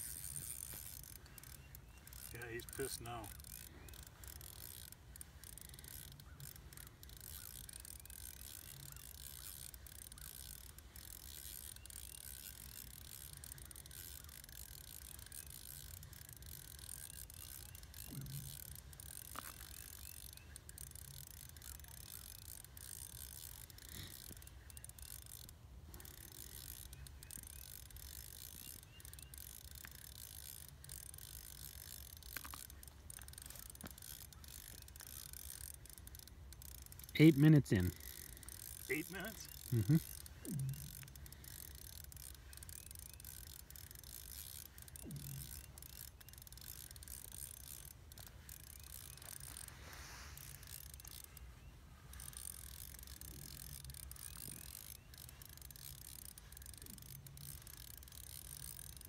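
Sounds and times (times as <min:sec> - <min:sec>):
fishing reel clicking: 0:00.0 - 0:59.0.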